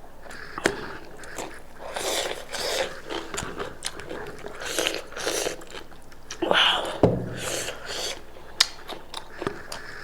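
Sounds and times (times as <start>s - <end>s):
person chewing meat: 0.2s - 10.0s.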